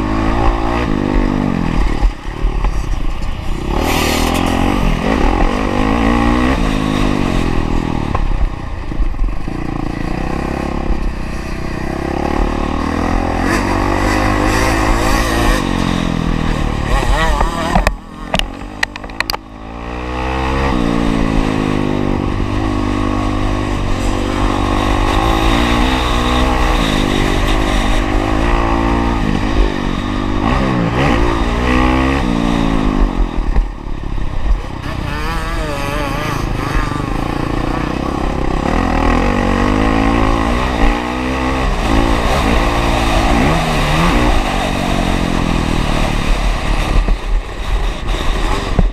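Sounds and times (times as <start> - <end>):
motocross engine revving: 3.4 - 8.5, 9.4 - 33.3, 34.6 - 47.2.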